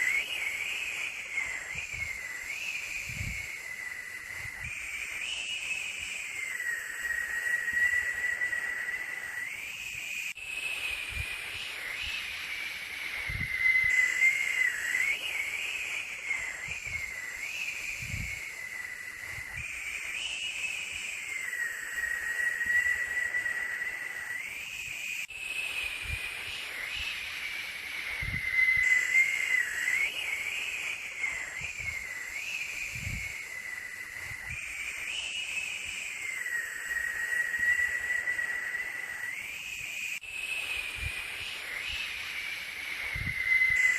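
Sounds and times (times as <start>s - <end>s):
steady white noise hiss: 0.0s - 43.9s
wavering high whistle tone: 0.0s - 43.9s.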